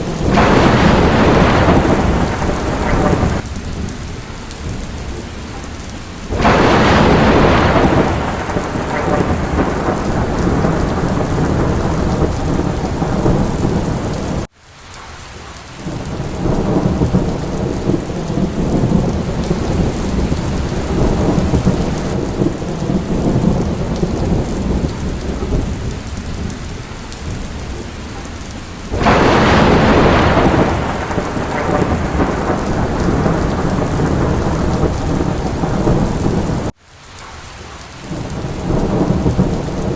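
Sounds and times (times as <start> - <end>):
rolling thunder: 0.0 - 14.5, 15.9 - 36.8, 38.1 - 39.9
heavy rain: 0.0 - 39.9.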